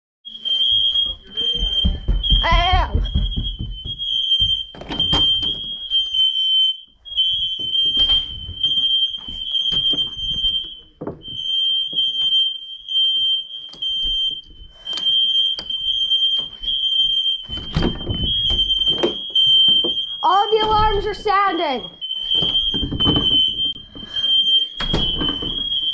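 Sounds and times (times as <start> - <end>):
smoke alarm high-pitched tone: 0.3 - 25.9.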